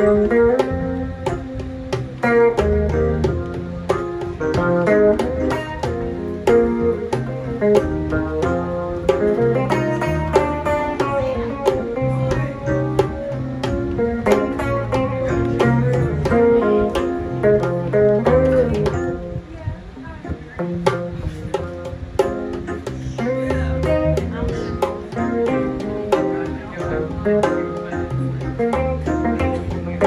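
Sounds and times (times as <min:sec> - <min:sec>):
hand drum and tambourine taps: 0:00.0 - 0:19.3, 0:20.7 - 0:30.0
band playing slow soul-blues: 0:00.0 - 0:30.0.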